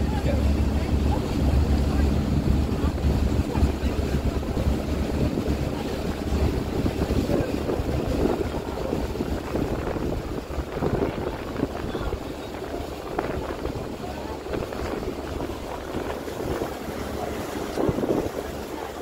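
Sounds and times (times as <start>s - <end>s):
boat engine running: 0.0s - 19.0s
water washing past hull: 0.0s - 19.0s
wind buffeting microphone: 0.0s - 19.0s.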